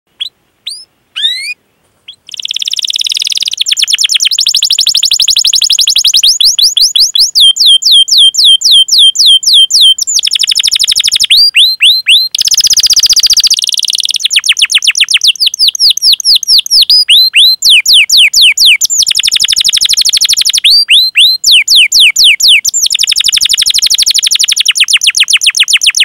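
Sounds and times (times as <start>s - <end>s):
canary singing: 0.1s - 26.0s.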